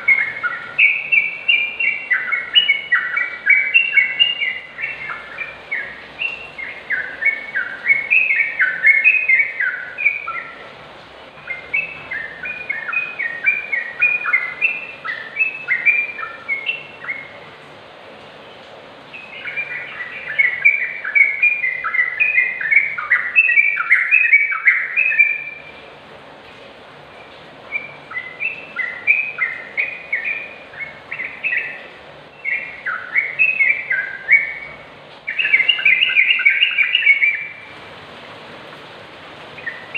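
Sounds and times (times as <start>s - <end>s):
bird singing bubbling phrases: 0.0s - 10.6s, 11.4s - 17.4s, 19.1s - 25.8s, 27.2s - 37.8s, 39.5s - 39.9s.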